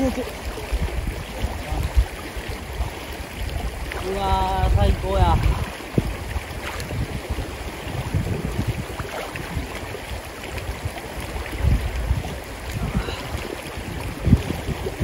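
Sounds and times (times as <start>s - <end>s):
shallow river flowing: 0.0s - 15.0s
water sloshing around people: 0.0s - 15.0s
wind buffeting microphone: 0.0s - 15.0s.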